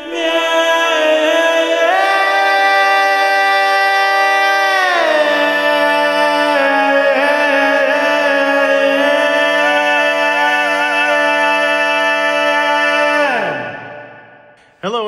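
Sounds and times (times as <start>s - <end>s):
men's a cappella singing: 0.0s - 14.2s.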